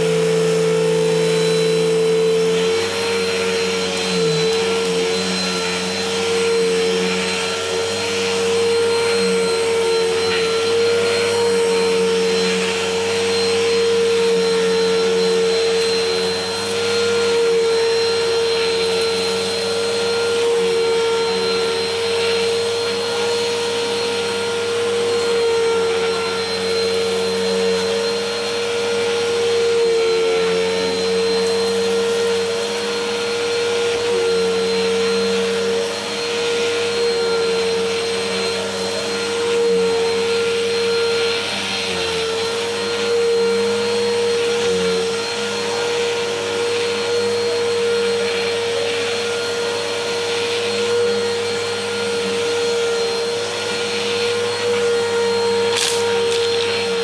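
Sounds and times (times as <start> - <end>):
vacuum cleaner humming on carpet: 0.0 - 57.0.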